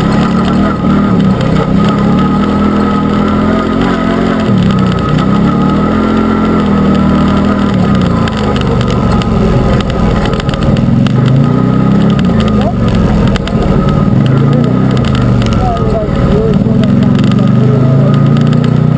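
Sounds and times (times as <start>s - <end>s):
utility vehicle engine revving: 0.0s - 18.9s.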